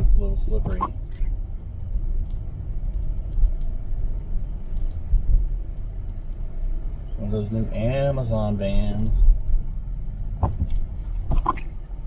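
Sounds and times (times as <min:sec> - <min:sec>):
car driving on slushy road: 0:00.0 - 0:12.0.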